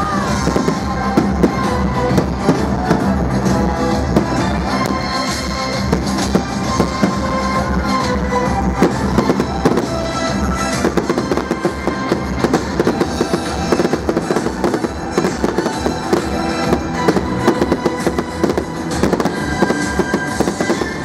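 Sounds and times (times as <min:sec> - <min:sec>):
fireworks bangs and crackling: 0:00.0 - 0:21.0
music playing: 0:00.0 - 0:21.0.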